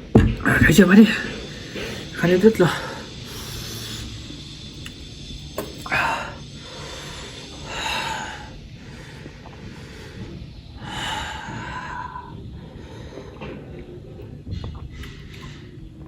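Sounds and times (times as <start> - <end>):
person breathing hard: 1.2 - 4.8, 5.6 - 16.0.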